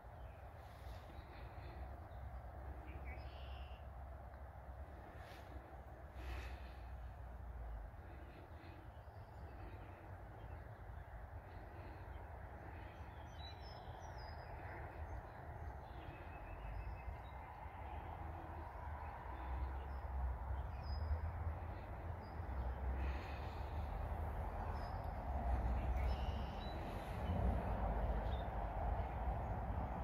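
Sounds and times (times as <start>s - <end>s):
faint bird calls: 0.1s - 28.7s.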